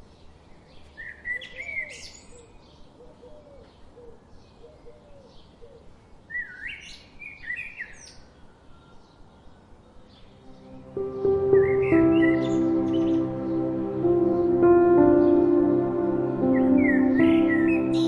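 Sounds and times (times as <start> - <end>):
bird warbling song: 0.2 - 18.0.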